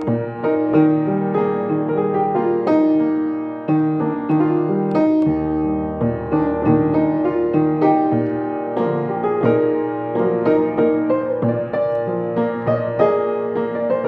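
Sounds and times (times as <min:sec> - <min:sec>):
solo piano melody: 0:00.0 - 0:14.0.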